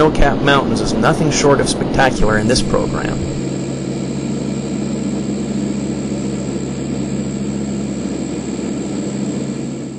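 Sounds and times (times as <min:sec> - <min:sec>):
thin high whine: 0:00.0 - 0:09.9
turboprop propeller drone: 0:00.0 - 0:09.9.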